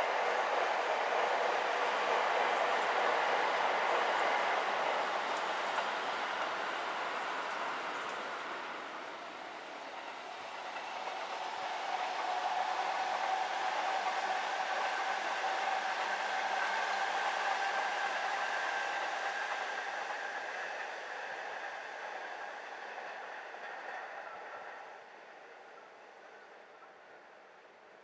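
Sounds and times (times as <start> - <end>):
electric train passing with whine: 0.0 - 28.0.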